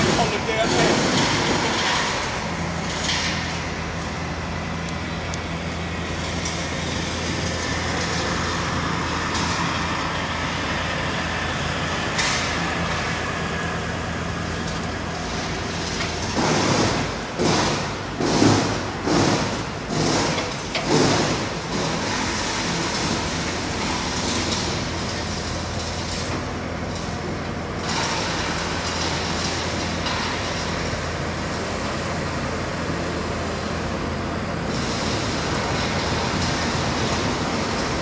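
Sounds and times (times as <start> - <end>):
loud clatter and rattling: 0.0 - 4.8, 5.8 - 11.0, 14.2 - 31.9, 34.6 - 38.0
lorry diesel engine running: 0.0 - 38.0.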